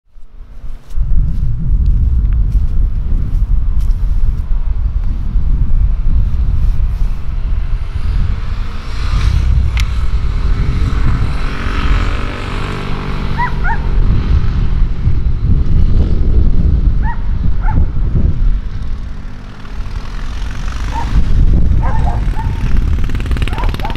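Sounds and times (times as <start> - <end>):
wind buffeting microphone: 0.2 - 23.9.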